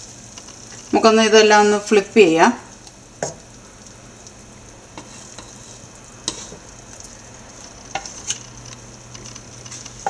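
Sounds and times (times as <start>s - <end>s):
bacon sizzling in a frying pan: 0.0s - 10.0s.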